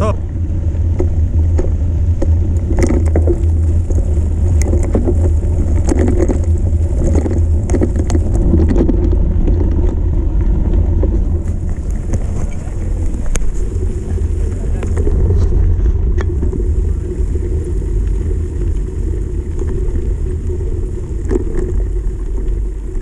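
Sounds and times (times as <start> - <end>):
wind and tyres rumbling: 0.0 - 23.0
bike clicks and rattles: 1.0 - 23.0.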